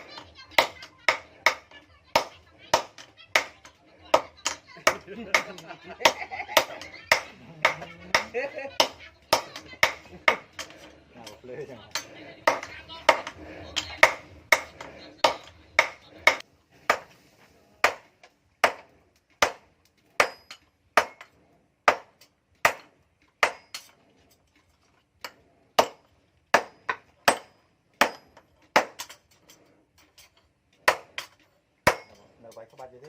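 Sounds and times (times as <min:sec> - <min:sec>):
hammer striking axe head on anvil: 0:00.0 - 0:17.1, 0:17.8 - 0:24.0, 0:25.2 - 0:29.2, 0:30.8 - 0:32.8.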